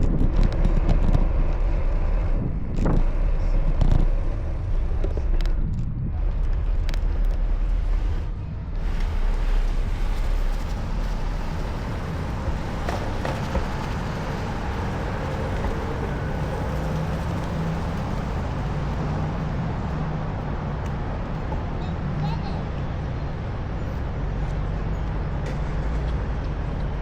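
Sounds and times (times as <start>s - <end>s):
low engine hum: 0.0s - 27.0s
passing cars traffic noise: 0.0s - 27.0s.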